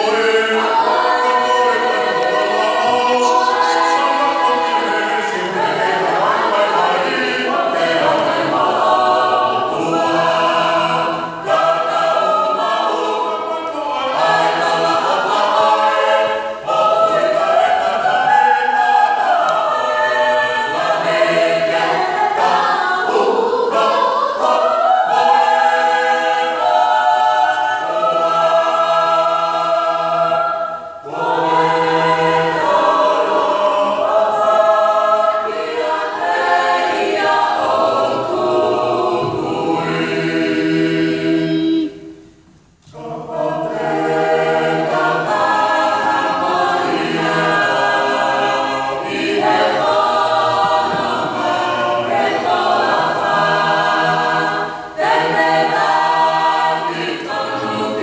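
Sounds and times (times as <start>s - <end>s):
choir singing a hymn unaccompanied: 0.0s - 58.0s.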